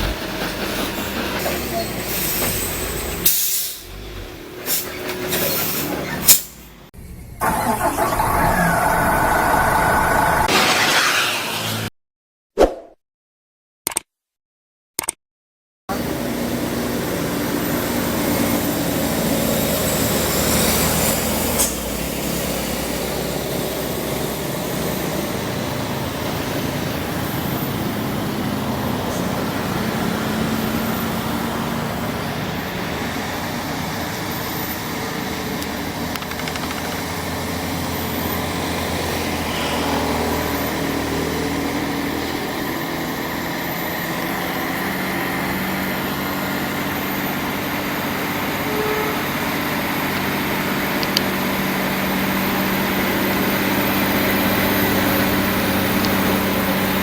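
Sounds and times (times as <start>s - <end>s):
truck diesel engine pulling hard: 0.0s - 11.9s, 15.9s - 57.0s.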